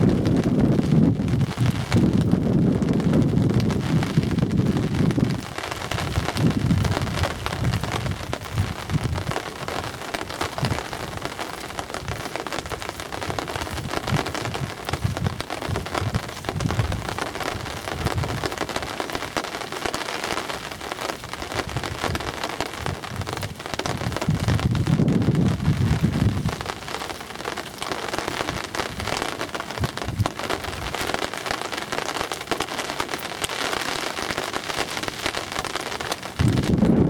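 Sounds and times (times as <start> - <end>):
wind buffeting microphone: 0.0 - 19.8, 20.6 - 32.4, 33.9 - 37.0
rain pattering: 0.0 - 37.0.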